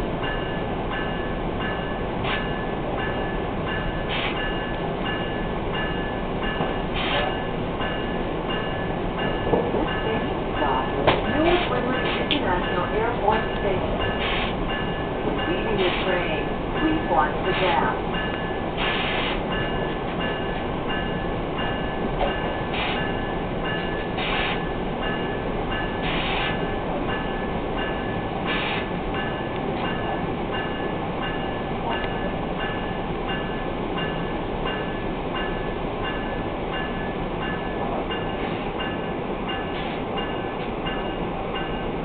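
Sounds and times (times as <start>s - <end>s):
train rumble and hiss: 0.0s - 42.0s.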